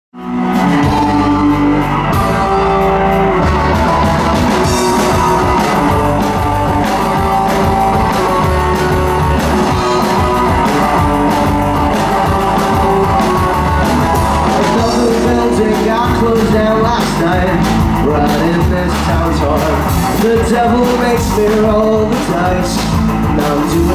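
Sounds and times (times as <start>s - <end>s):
drum kit: 0.2s - 23.9s
electric guitars: 0.2s - 23.9s.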